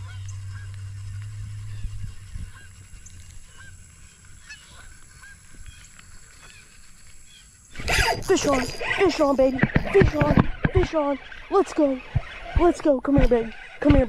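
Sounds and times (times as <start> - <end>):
birds calling: 0.0 - 14.0
low hum: 0.0 - 14.0.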